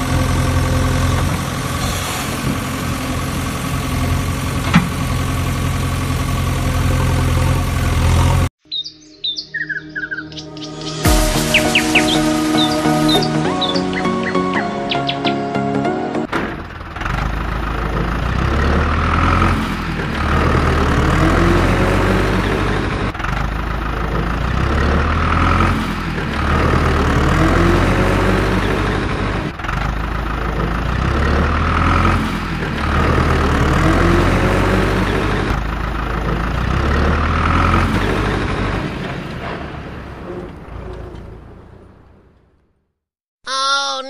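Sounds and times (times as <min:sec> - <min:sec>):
truck engine sound effect: 0:00.0 - 0:08.5, 0:09.3 - 0:42.9.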